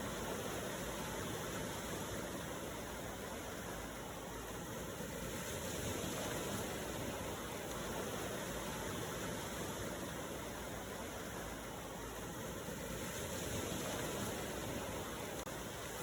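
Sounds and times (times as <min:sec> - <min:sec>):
ocean waves washing in: 0:00.0 - 0:16.0.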